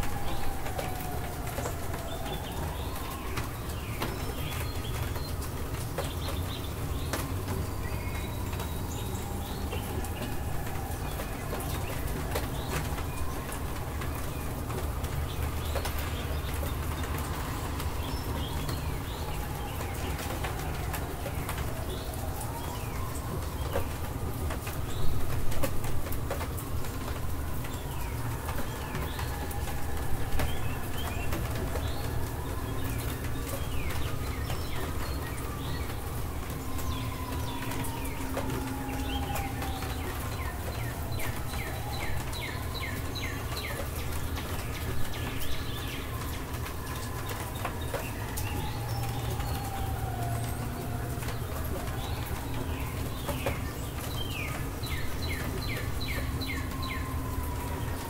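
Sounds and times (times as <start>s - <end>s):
birds chirping: 0.1s - 25.2s, 26.6s - 58.0s.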